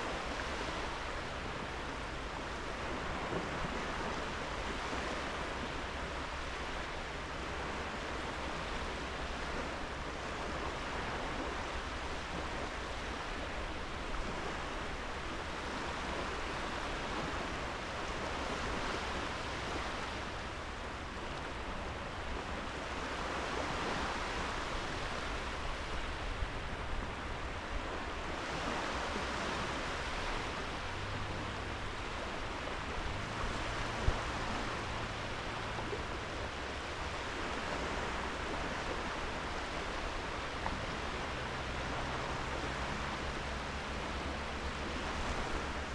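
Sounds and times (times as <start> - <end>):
sea waves breaking on beach: 0.0 - 45.9.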